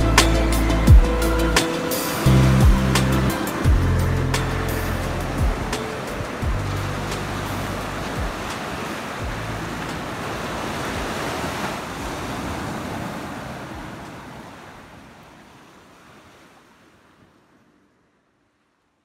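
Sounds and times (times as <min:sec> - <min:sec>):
surf washing on shore: 0:00.0 - 0:17.6
wind: 0:00.0 - 0:19.0.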